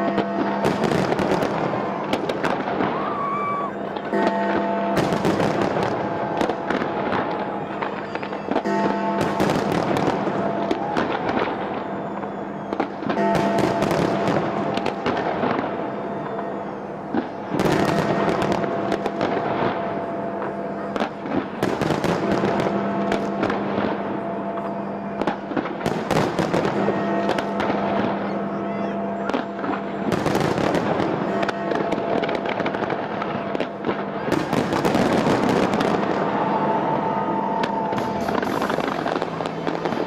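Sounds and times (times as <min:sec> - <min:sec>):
fireworks bursting and crackling: 0:00.0 - 0:40.0.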